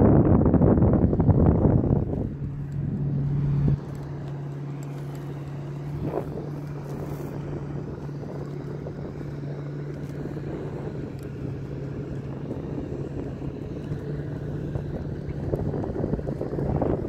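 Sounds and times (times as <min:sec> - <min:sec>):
boat engine droning: 0:00.0 - 0:17.0
wind rumbling on microphone: 0:00.0 - 0:17.0.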